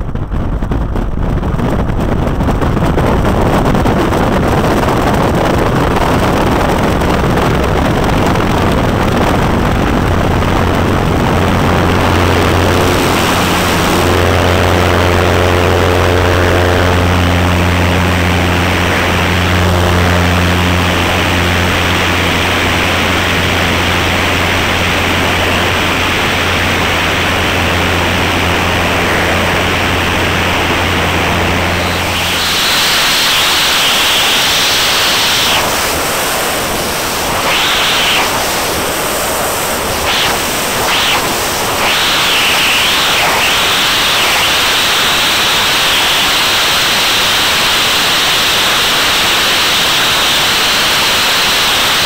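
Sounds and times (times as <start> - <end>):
engine and propeller drone: 0.0 - 52.0
loud rushing wind: 0.0 - 52.0.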